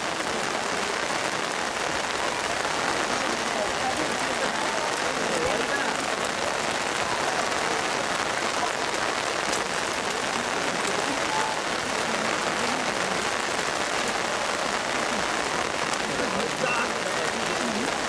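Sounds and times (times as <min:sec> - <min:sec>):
heavy rain on umbrellas: 0:00.0 - 0:18.0.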